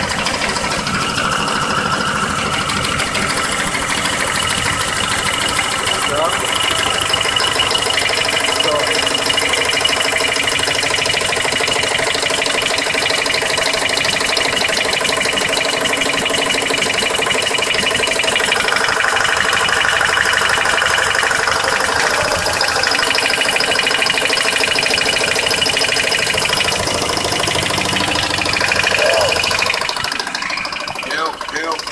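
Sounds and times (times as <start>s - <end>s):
car engine running: 0.0s - 31.9s
rapid engine ticking: 0.0s - 31.9s.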